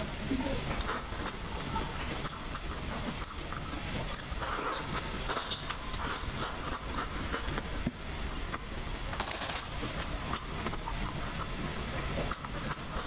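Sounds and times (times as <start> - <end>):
close-up chewing crunches: 0.7 - 7.7, 8.5 - 13.0.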